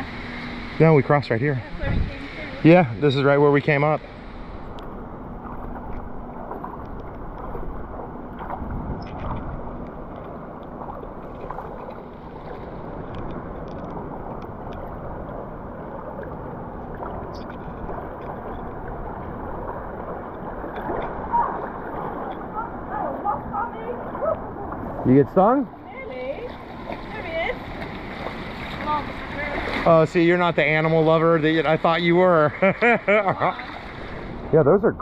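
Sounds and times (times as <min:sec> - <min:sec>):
river water rushing: 0:00.0 - 0:09.4, 0:15.0 - 0:34.6.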